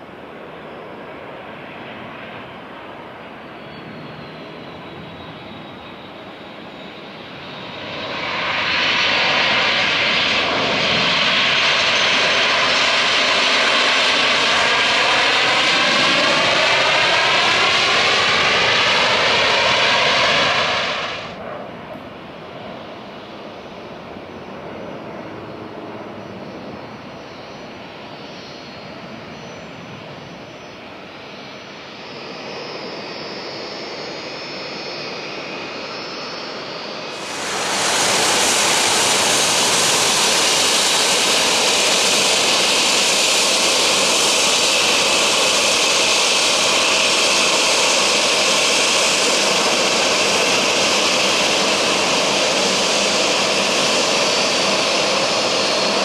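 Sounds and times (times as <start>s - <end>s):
jet aircraft passing close: 0.0s - 56.0s
jet engines taxiing: 0.0s - 56.0s.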